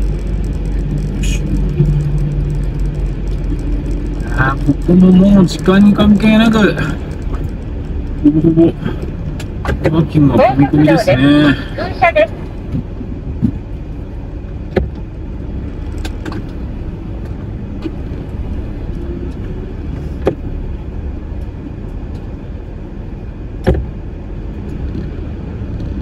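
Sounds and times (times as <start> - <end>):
truck engine and road rumble: 0.0 - 26.0.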